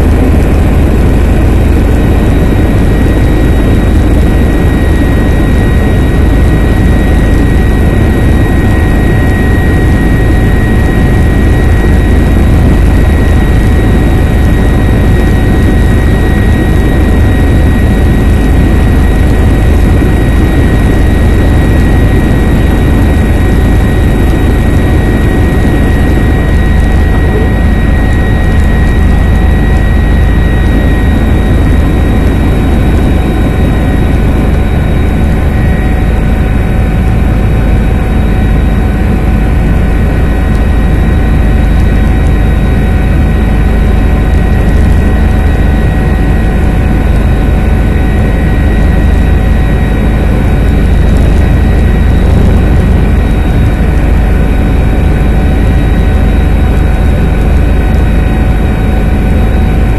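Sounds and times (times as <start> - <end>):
helicopter rotor rumble: 0.0 - 59.9
high-pitched whine: 0.0 - 59.9.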